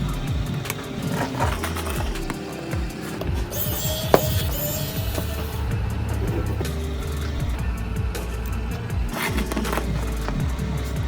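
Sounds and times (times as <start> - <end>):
background music with bass: 0.0 - 11.0
percussion hits: 0.0 - 11.0.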